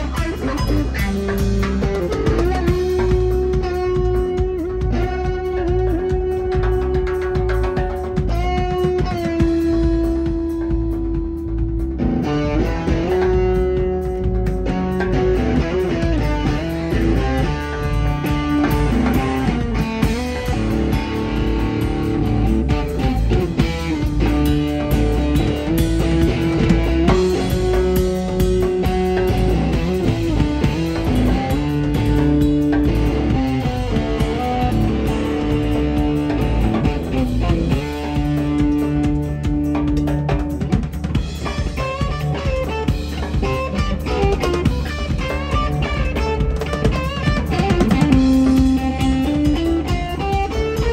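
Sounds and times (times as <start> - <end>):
drum kit: 0.0 - 50.9
electric bass: 0.0 - 50.9
electric guitar lead: 0.0 - 50.9.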